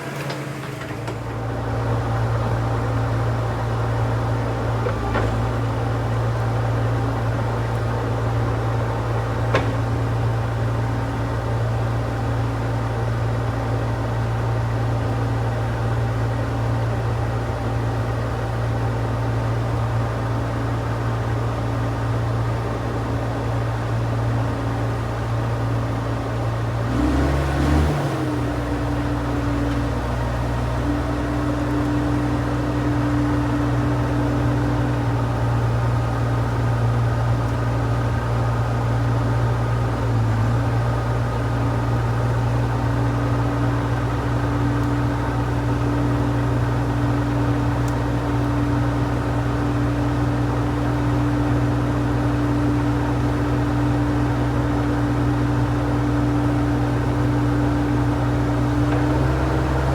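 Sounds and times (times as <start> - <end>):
heavy machine engine running: 0.0 - 18.7, 22.0 - 59.9.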